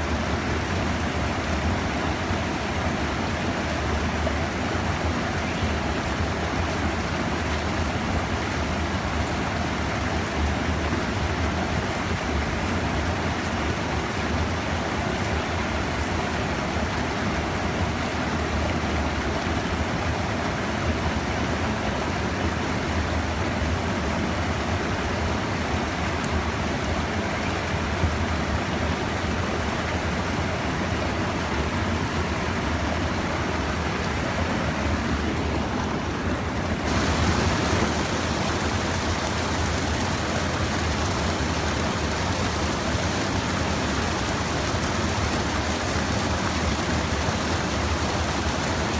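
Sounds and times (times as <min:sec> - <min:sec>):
flowing stream water: 0:00.0 - 0:48.9.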